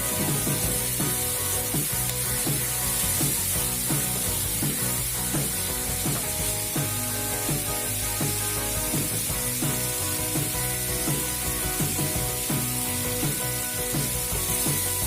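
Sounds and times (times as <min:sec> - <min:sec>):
background music with a beat: 0:00.0 - 0:15.0
fish sizzling in hot oil: 0:00.0 - 0:15.0.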